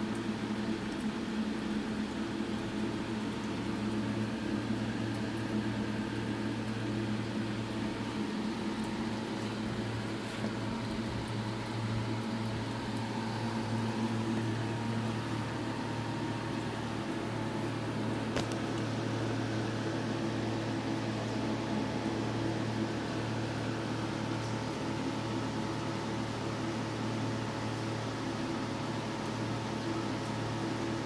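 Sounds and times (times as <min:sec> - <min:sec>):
filter pump hum: 0:00.0 - 0:31.0.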